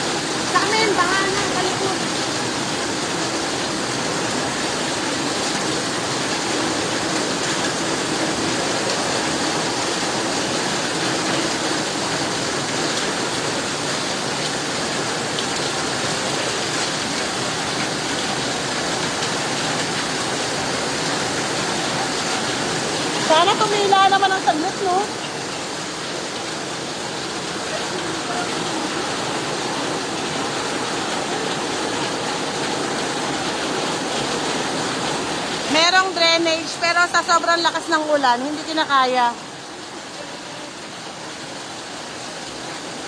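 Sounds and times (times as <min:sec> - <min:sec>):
floodwater rushing: 0:00.0 - 0:43.0
heavy rain: 0:00.0 - 0:43.0.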